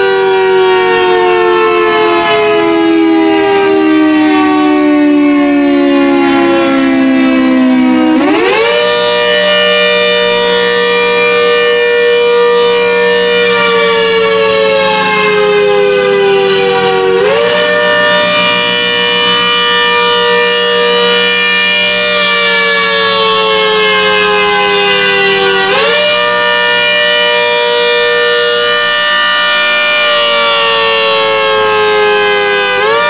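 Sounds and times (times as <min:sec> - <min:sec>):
civil defense siren wailing: 0:00.0 - 0:33.0.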